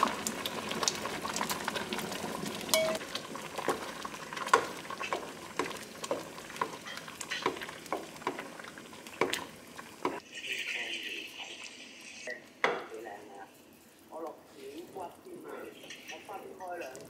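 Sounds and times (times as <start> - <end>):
porridge simmering hiss: 0.0 - 17.0.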